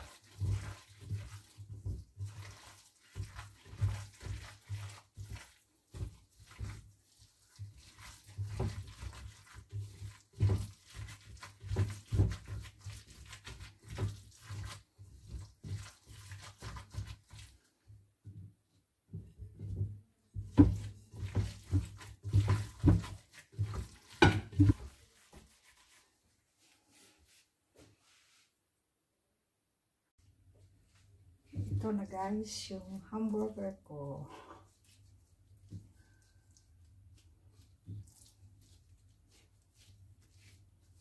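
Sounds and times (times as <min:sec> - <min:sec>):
wet squelching of ground meat: 0:00.0 - 0:18.1, 0:19.2 - 0:27.4, 0:30.9 - 0:41.0.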